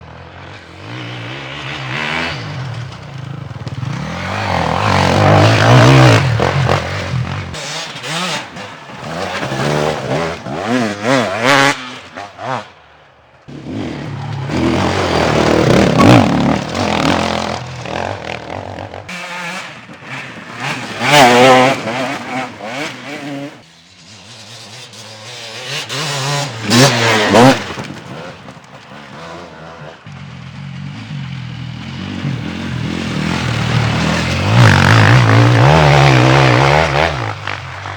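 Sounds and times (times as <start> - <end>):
dirt bike engines revving: 0.0 - 37.9.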